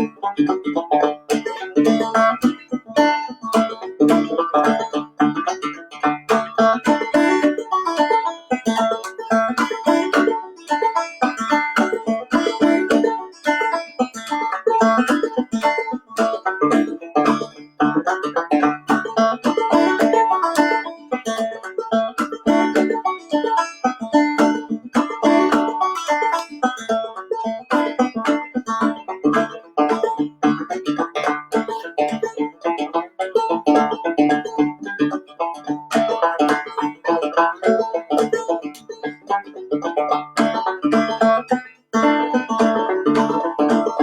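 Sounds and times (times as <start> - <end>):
banjo plucking a tune: 0.0 - 44.0.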